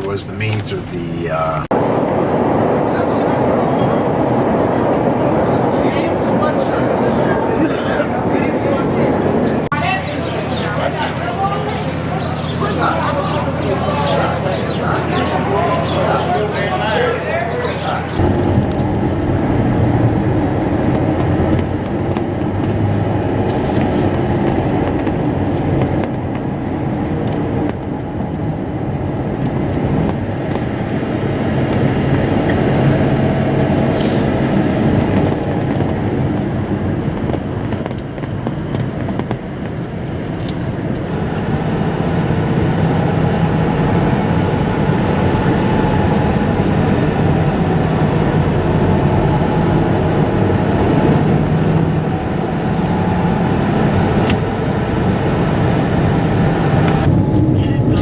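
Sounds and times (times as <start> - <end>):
moving vehicle rumble: 0.0 - 58.0.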